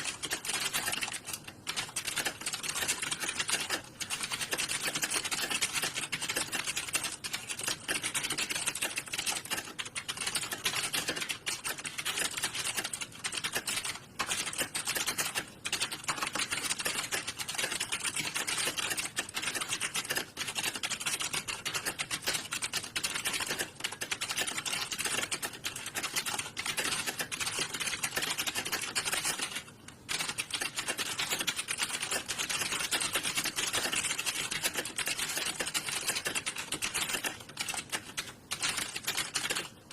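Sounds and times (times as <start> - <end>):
fast typing on keyboards: 0.0 - 39.9.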